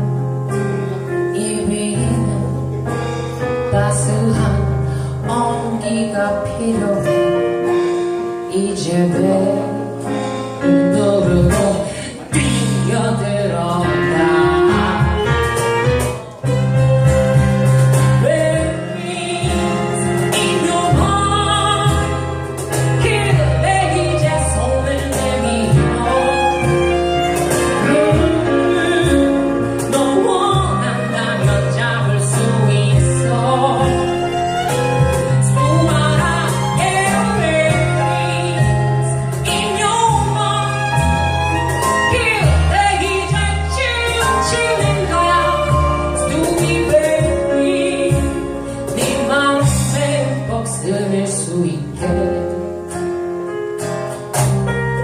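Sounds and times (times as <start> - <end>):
instrumental jazz band music: 0.0 - 55.0.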